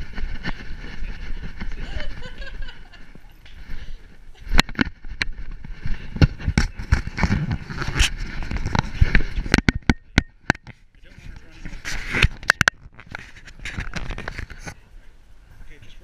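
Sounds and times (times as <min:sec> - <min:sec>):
rubbing noise: 0:00.0 - 0:09.9, 0:10.5 - 0:14.8.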